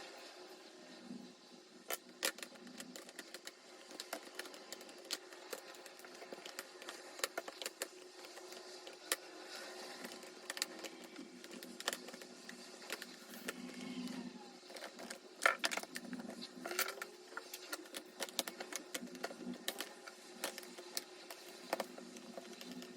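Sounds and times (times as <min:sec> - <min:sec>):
faint steady hum: 0:00.0 - 0:22.9
small objects clicking and tapping: 0:01.8 - 0:22.9.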